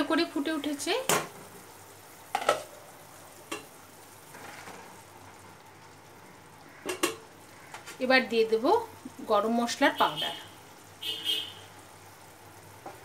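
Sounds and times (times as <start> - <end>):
gravy bubbling in a pan: 0.0 - 13.0.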